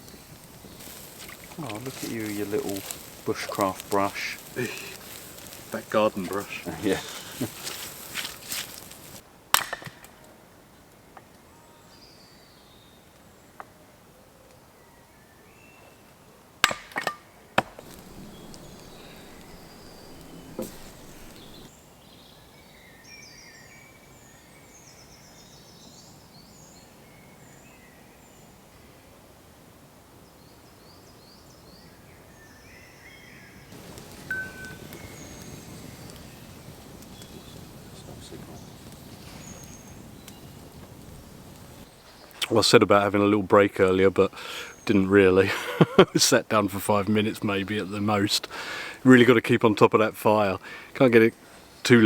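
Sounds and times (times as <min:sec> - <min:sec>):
songbirds chirping: 0:00.0 - 0:09.3, 0:10.2 - 0:16.5, 0:17.3 - 0:29.3, 0:30.2 - 0:52.0.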